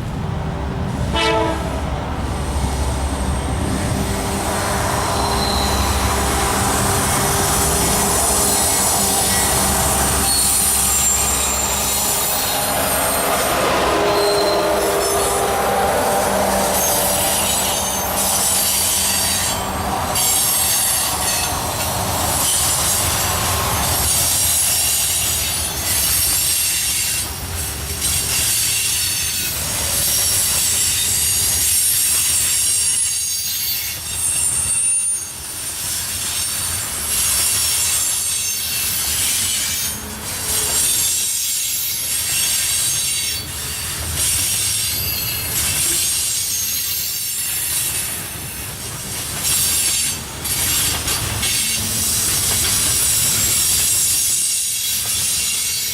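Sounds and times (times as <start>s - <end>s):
train rumbling and clattering: 0.0s - 55.9s
steel wheels squealing on rails: 2.3s - 55.9s.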